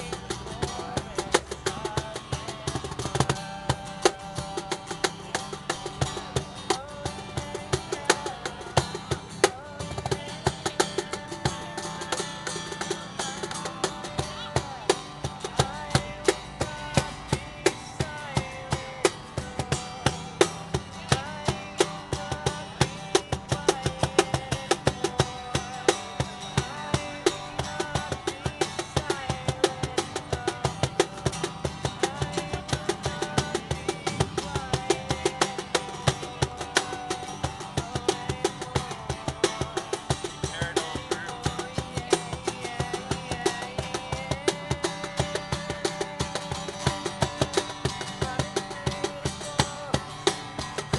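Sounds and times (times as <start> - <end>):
acoustic guitar chords: 0.0 - 50.9.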